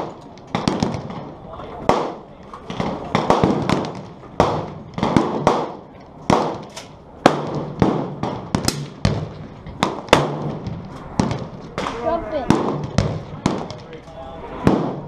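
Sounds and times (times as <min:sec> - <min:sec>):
rifle shots echoing: 0:00.0 - 0:14.0, 0:14.6 - 0:15.0.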